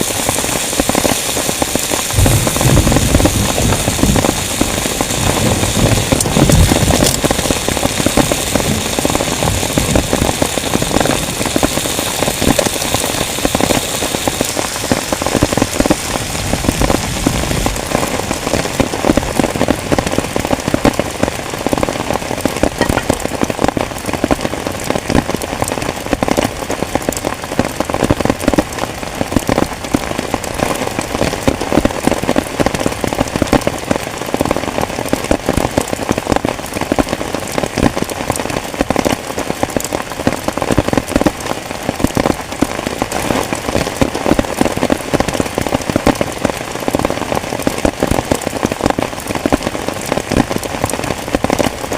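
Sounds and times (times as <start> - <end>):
heavy rain drumming on tent: 0.0 - 51.9.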